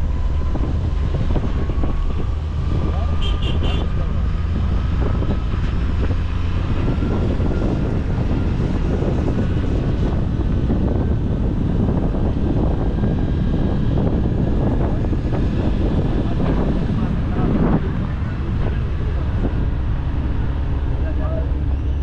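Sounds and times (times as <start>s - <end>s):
vehicle road and engine noise: 0.0s - 22.0s
wind buffeting microphone: 0.0s - 22.0s.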